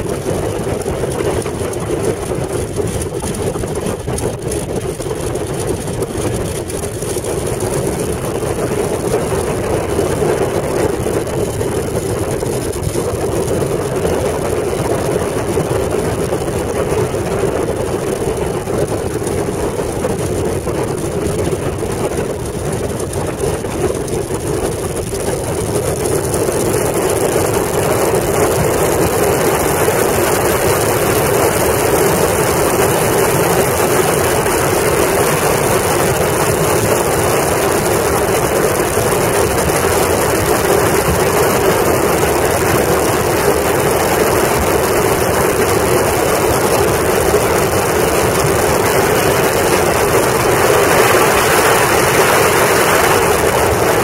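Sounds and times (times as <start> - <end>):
biplane radial engine running: 0.0 - 54.0.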